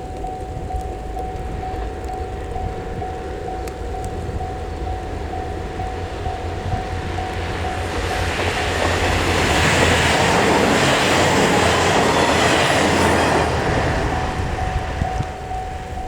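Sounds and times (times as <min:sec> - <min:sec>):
diesel train passing: 0:00.0 - 0:16.0
pulsing steady tone: 0:00.0 - 0:16.0.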